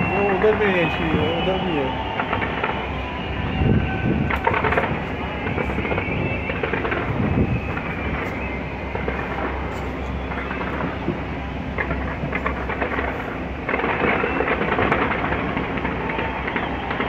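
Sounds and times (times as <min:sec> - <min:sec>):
fireworks crackling: 0:00.0 - 0:17.0
fireworks deep rumble of bursts: 0:00.0 - 0:17.0.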